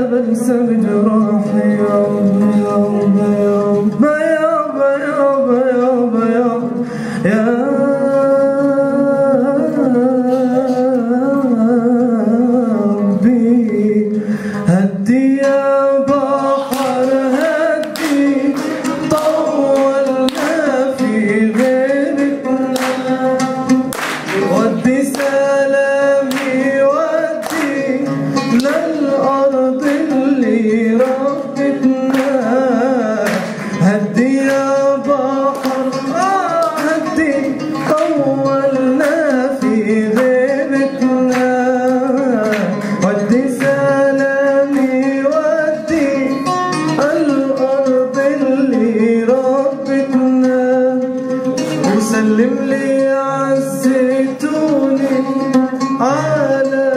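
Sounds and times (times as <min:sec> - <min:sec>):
man singing into a microphone: 0:00.0 - 0:56.9
plucked oud: 0:00.0 - 0:56.9.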